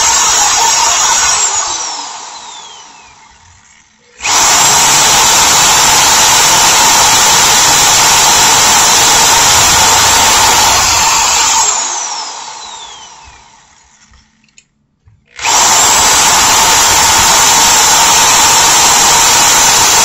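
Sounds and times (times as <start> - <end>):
electric drill motor whining: 0.0 - 14.4, 15.3 - 20.0.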